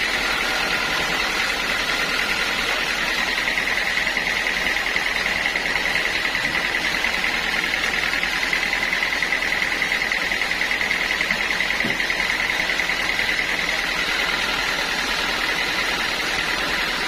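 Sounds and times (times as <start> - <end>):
sawmill saw whirring: 0.0 - 17.0.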